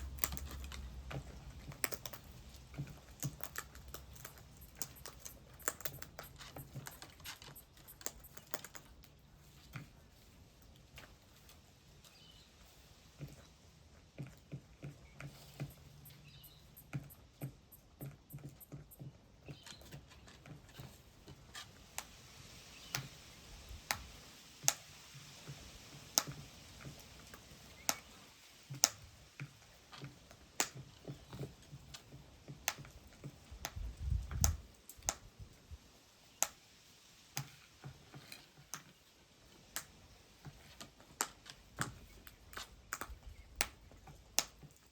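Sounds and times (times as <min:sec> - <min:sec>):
birds pecking at food: 0:00.0 - 0:44.9.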